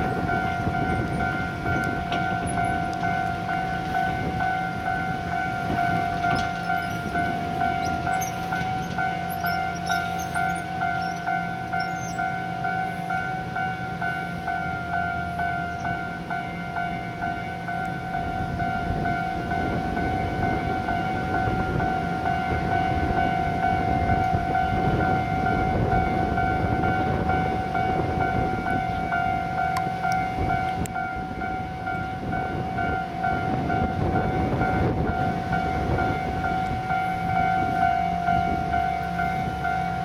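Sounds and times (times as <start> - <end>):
diesel locomotive and wagons rumbling: 0.0 - 40.0
level crossing alarm ringing: 0.0 - 40.0.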